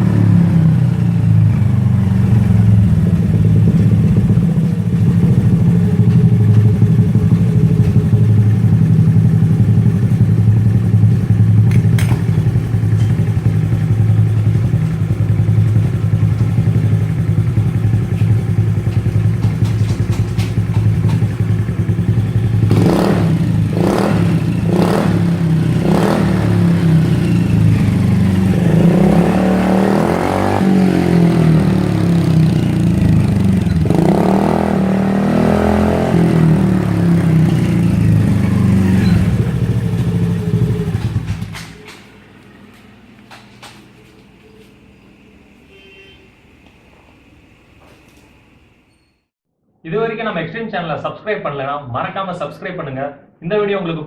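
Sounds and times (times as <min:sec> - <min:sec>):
scooter engine idling and revving: 0:00.0 - 0:46.6.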